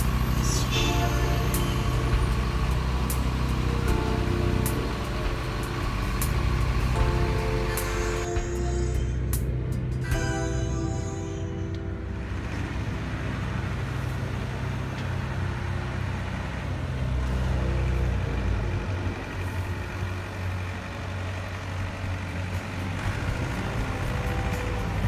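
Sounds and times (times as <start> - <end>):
model vehicle engines running: 0.0 - 8.2, 12.1 - 25.0
loader scooping loose dirt: 0.0 - 10.1, 11.7 - 25.0.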